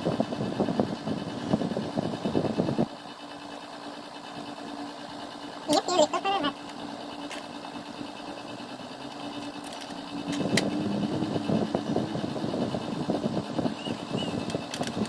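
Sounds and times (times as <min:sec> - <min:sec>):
disc drive whirring rattle: 0:00.0 - 0:15.0
game console humming: 0:00.0 - 0:15.0.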